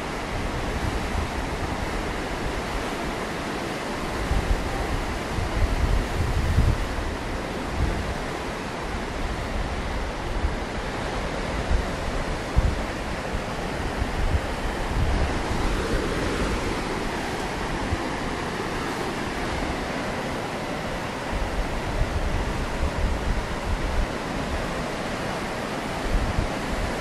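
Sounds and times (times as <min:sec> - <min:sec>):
surf breaking on rocks: 0:00.0 - 0:27.0
wind rumbling on microphone: 0:00.0 - 0:27.0.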